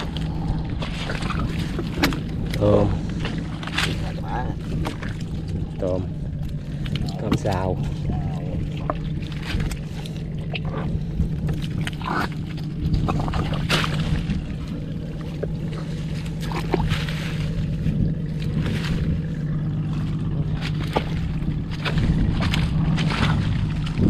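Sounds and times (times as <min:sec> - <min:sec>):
water sloshing and splashing: 0:00.0 - 0:24.0.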